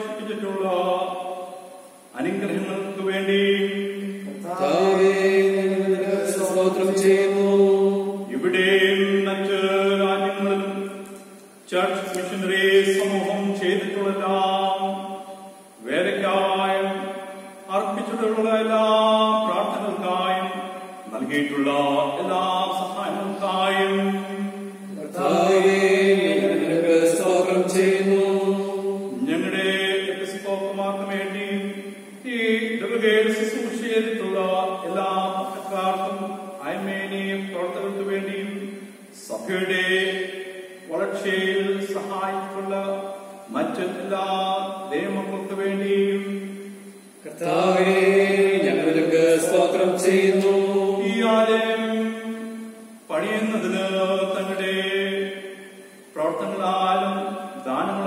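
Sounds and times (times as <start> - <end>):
slow sung chant: 0.0 - 58.0.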